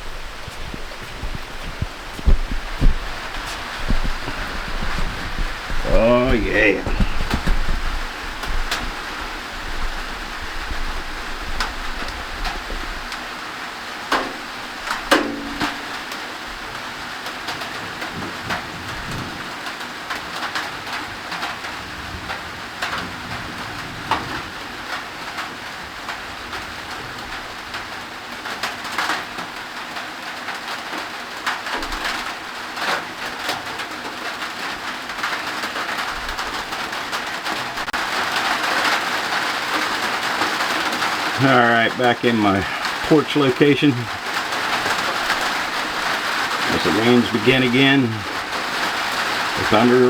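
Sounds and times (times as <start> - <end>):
heavy raindrops knocking: 0.0 - 50.0
steady rain: 0.0 - 50.0.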